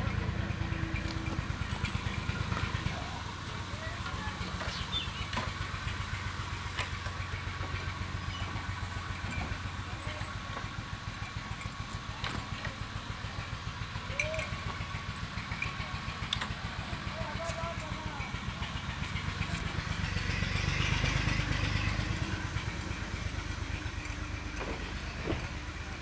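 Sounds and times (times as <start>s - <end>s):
engine thudding steadily: 0.0s - 26.0s.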